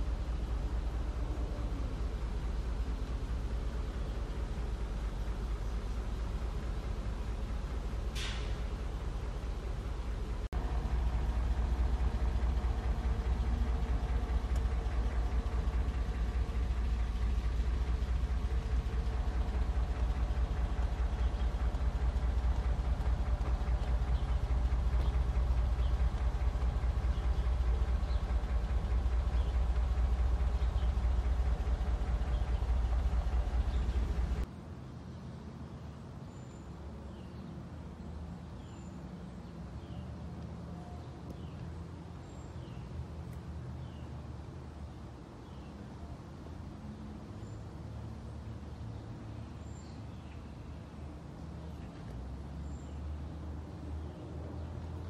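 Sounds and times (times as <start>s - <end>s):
car engine idling: 0.0s - 34.6s, 37.0s - 55.0s.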